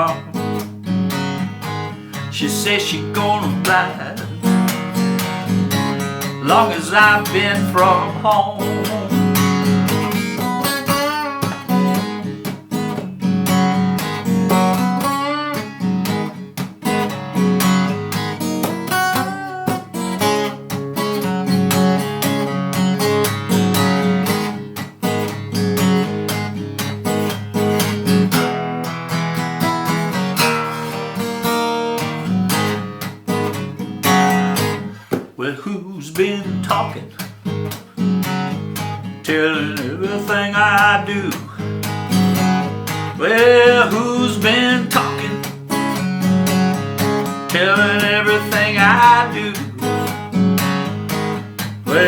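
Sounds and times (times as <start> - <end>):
acoustic guitar blues: 0.0 - 52.0.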